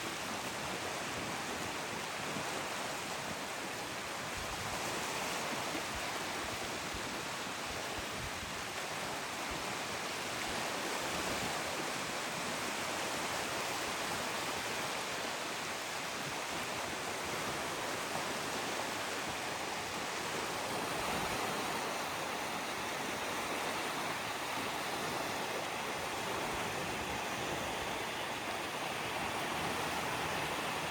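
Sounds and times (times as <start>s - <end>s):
ocean waves washing on shore: 0.0s - 30.9s.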